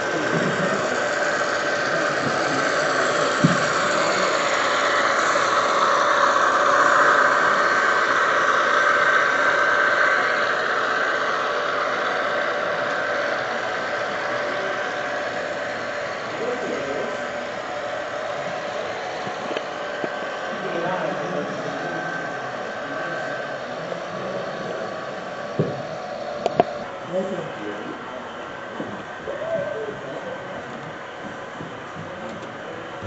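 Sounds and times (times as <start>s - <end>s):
model train humming past: 0.0s - 31.9s.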